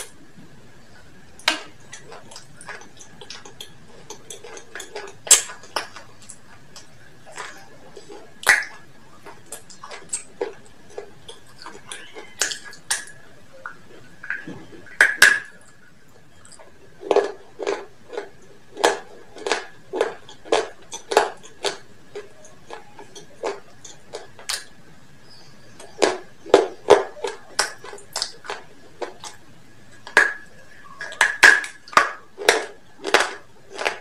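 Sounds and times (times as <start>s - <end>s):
crunchy chewing of fried chicken: 0.0s - 34.0s.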